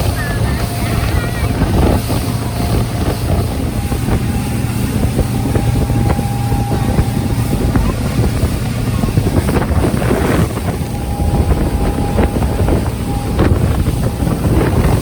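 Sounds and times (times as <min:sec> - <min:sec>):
outboard boat engine: 0:00.0 - 0:15.0
water rushing: 0:00.0 - 0:15.0
wind on microphone: 0:00.0 - 0:15.0.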